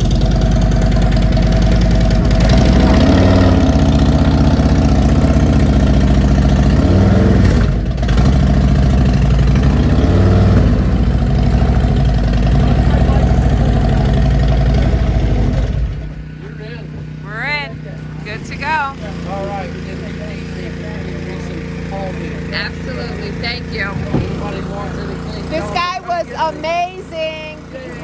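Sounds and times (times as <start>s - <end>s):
motorcycle engine idling and revving: 0.0s - 28.0s.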